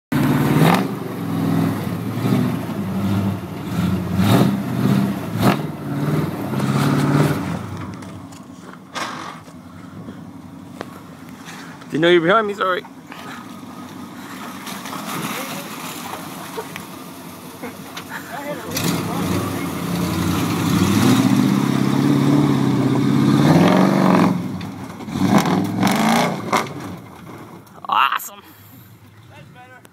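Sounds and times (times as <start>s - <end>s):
truck engine revving: 0.1s - 27.7s.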